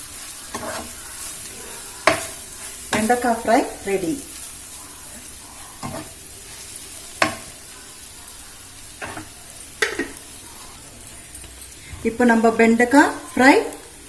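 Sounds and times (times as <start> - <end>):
spatula scraping a pan: 0.0 - 11.9
food sizzling in oil: 0.0 - 14.0.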